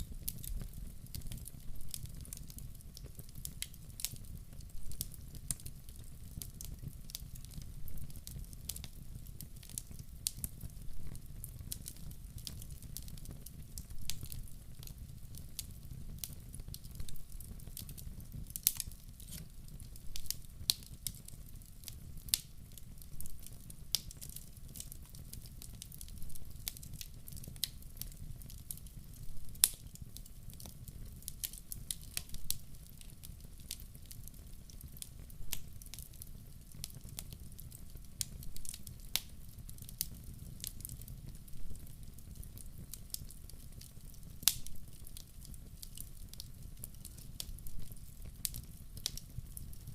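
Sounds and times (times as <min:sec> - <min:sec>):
fire crackling and popping: 0:00.0 - 0:49.9
low steady rumble of stove: 0:00.0 - 0:49.9.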